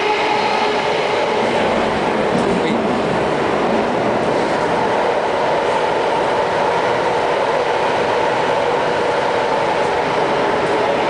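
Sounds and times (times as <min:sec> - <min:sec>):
train wheels rumbling on rails: 0:00.0 - 0:11.0
tunnel noise: 0:00.0 - 0:11.0.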